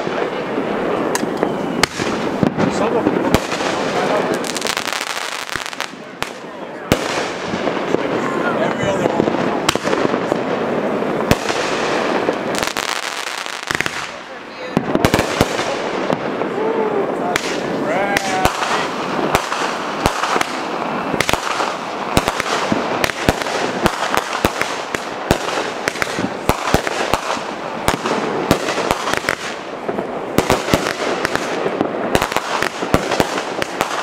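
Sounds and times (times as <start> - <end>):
fireworks bangs and pops: 0.0 - 34.0.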